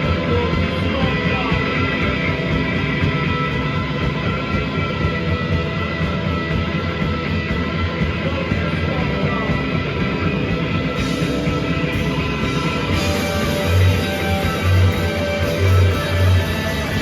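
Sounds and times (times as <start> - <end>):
rock band playing distorted guitars: 0.0 - 17.0.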